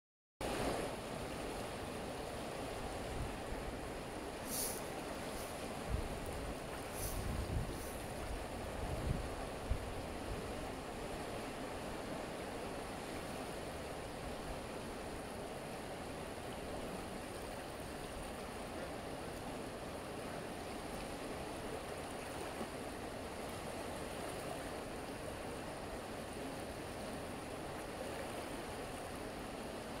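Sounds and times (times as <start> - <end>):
river water rushing: 0.4 - 30.0.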